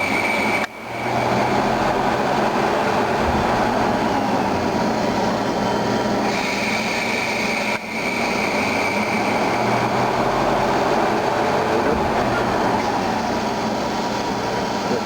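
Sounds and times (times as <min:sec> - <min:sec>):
high cutting whine: 0:00.0 - 0:15.0
lathe machine noise: 0:00.0 - 0:15.0.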